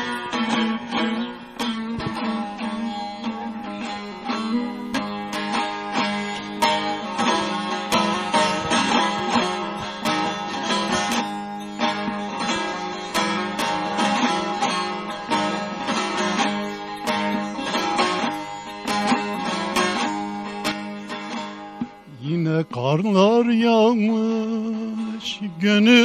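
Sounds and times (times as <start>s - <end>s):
plucked string folk music: 0.0s - 26.0s.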